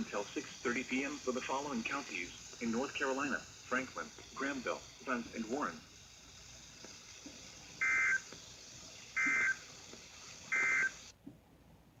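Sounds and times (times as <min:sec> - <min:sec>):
screeching two-tone data bursts: 0:00.0 - 0:11.1
broadcast hiss: 0:00.0 - 0:11.2.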